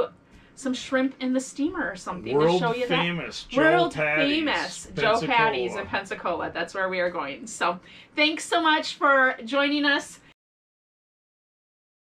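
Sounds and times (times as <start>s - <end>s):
woman speaking: 0.0s - 10.4s.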